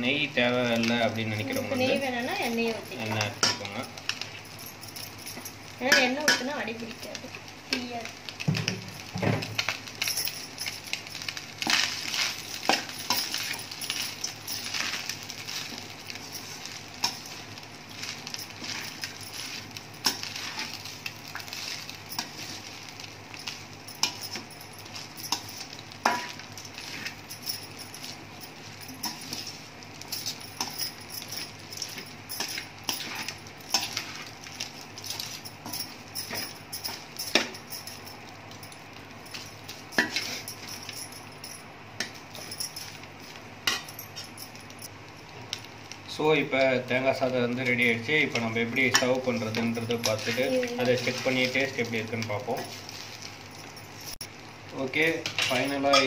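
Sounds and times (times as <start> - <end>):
rice rustling: 0.1 - 56.0.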